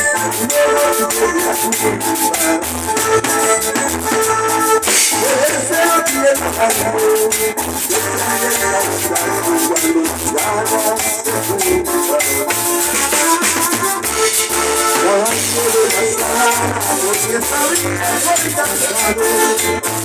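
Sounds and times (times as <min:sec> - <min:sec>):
drum kit with cymbals: 0:00.0 - 0:20.0
electric bass: 0:00.0 - 0:20.0
keyboard line: 0:00.0 - 0:20.0.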